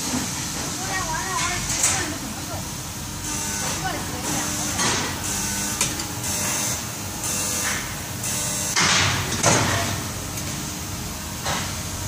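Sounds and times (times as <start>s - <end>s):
factory machines humming: 0.0s - 12.0s.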